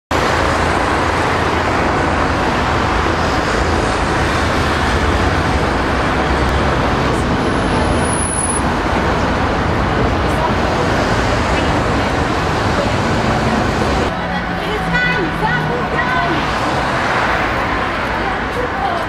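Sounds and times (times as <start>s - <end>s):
city street traffic: 0.1s - 19.0s.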